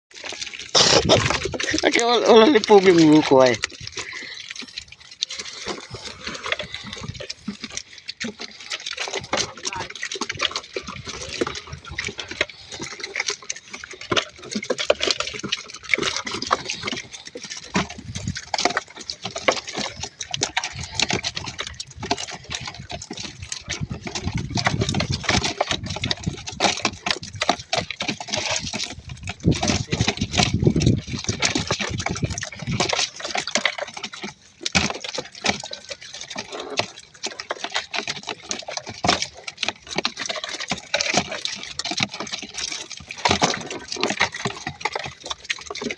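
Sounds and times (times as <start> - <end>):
water splashing and sloshing: 0.1 - 45.9.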